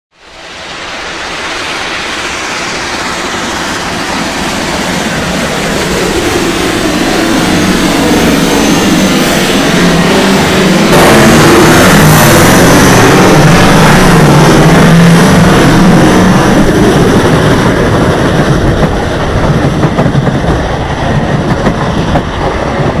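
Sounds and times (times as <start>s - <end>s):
steam locomotive passing: 0.1s - 23.0s.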